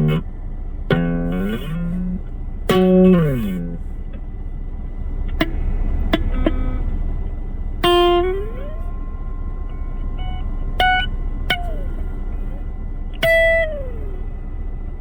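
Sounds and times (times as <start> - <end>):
electric guitar single notes: 0.0 - 4.4, 5.3 - 15.0
low amp hum: 0.0 - 15.0.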